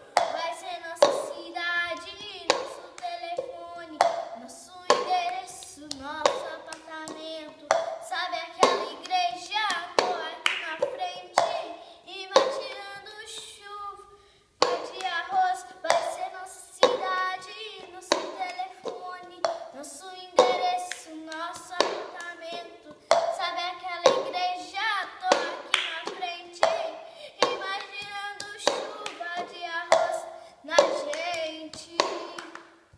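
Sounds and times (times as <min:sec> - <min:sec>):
person singing wordless melody: 0:00.0 - 0:32.6
hand claps: 0:01.0 - 0:11.7, 0:14.6 - 0:32.8.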